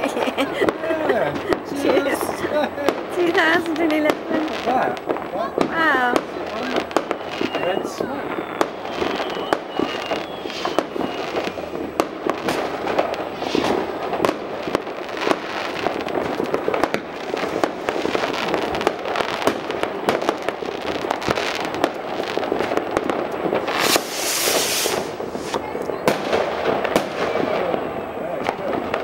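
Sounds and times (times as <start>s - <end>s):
fireworks crackling and banging: 0.0s - 29.0s.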